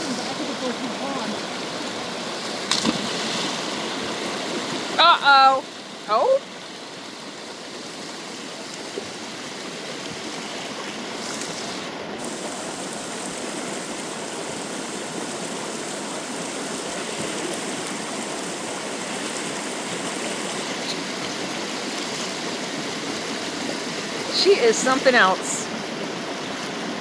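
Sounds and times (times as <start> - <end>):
waterfall rushing: 0.0 - 2.7, 3.4 - 27.0.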